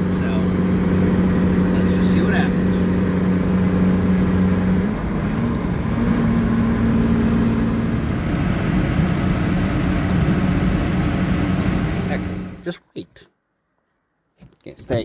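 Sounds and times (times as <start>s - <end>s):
pickup engine drone: 0.0s - 12.6s
road noise: 0.0s - 12.6s.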